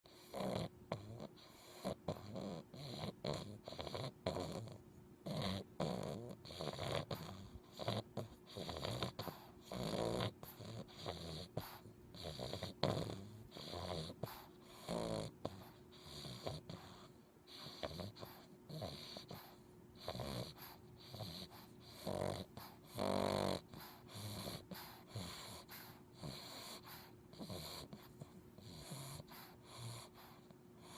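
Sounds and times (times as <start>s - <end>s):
puppy snoring: 0.1s - 30.9s.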